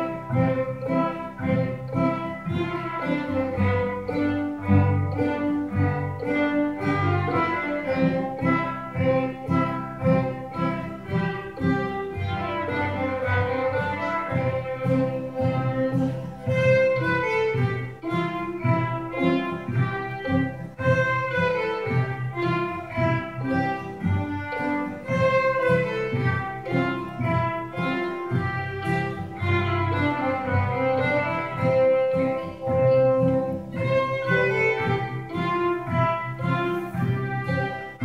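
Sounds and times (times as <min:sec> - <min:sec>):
string ensemble playing: 0:00.0 - 0:38.0.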